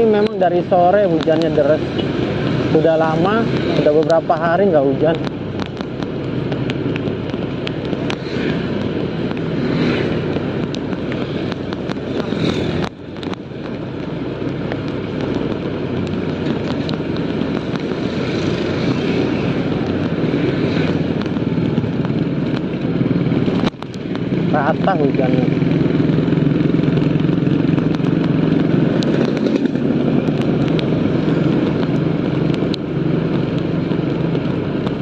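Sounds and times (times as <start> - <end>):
rain crackling on microphone: 0.0 - 35.0
wind and road noise: 0.0 - 35.0.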